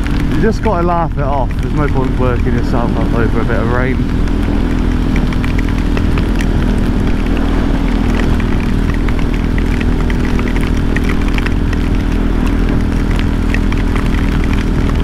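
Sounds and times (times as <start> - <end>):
heavy rain ticking: 0.0 - 15.0
motorcycle engine cruising: 0.0 - 15.0.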